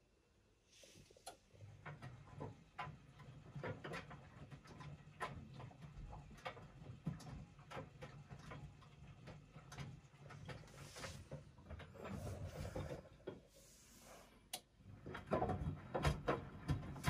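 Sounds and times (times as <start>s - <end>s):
washing machine motor hum: 1.1s - 17.0s.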